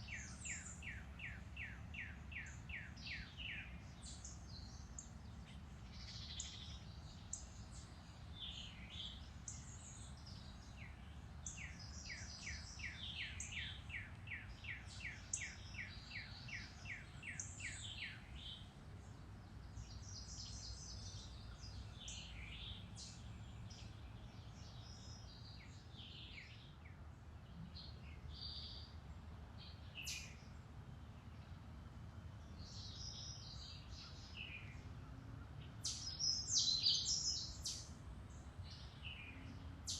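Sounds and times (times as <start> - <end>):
birds singing and calling: 0.0 - 30.6, 32.4 - 39.9.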